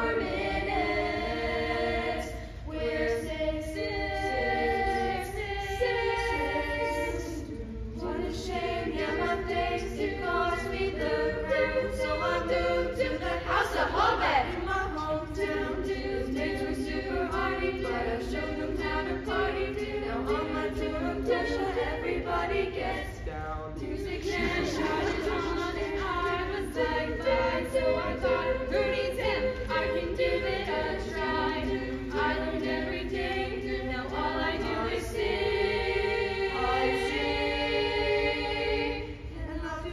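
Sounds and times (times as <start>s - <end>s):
young voices singing a cappella: 0.0s - 39.9s.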